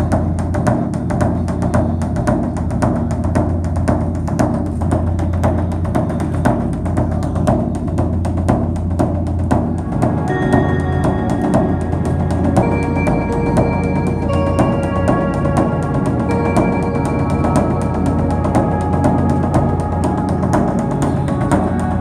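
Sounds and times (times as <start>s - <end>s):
low drone: 0.0s - 22.0s
rapid drum strokes: 0.0s - 22.0s.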